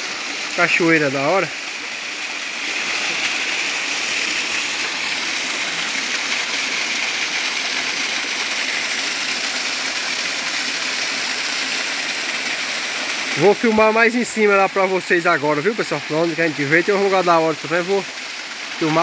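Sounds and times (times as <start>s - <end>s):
waterfall rushing splash: 2.4s - 19.0s.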